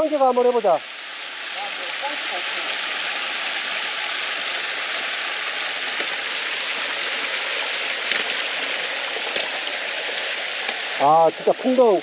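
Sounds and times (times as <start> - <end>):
waterfall splashing into pool: 0.0 - 12.0.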